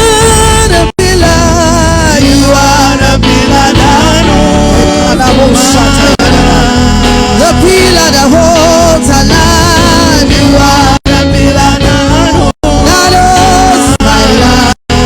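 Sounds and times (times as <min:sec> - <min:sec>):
church band playing gospel music: 0:00.0 - 0:15.0
person singing: 0:00.0 - 0:15.0.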